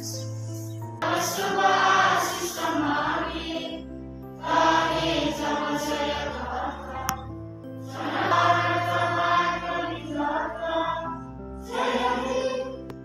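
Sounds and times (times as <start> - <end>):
choir singing: 1.0 - 12.9.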